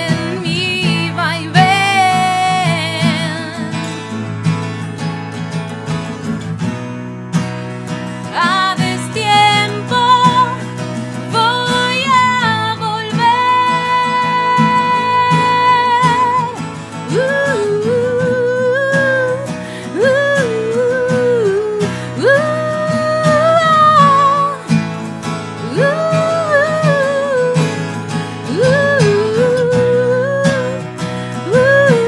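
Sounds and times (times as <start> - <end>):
woman singing: 0.0 - 4.2, 8.2 - 32.0
acoustic guitar strumming: 0.0 - 32.0.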